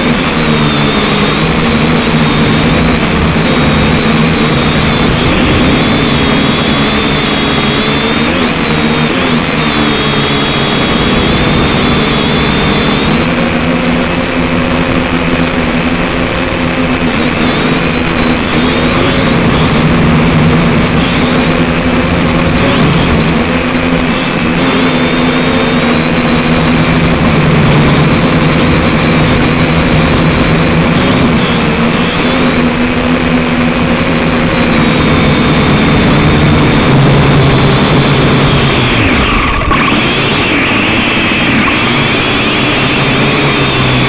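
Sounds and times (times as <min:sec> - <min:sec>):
drone motors whining: 0:00.0 - 0:44.0.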